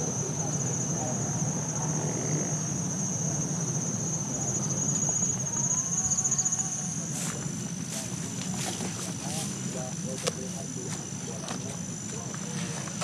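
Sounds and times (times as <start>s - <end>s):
insects trilling: 0.0s - 13.0s
low steady rumble: 0.0s - 13.0s.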